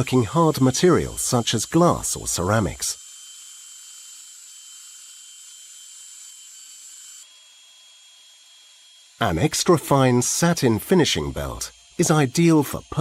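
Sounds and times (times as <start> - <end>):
belt sander whining: 0.0 - 13.0.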